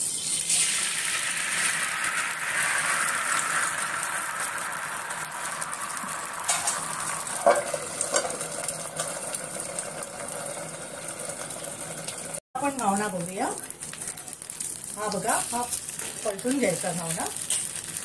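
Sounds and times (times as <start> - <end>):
batter sizzling on griddle: 0.0 - 18.0.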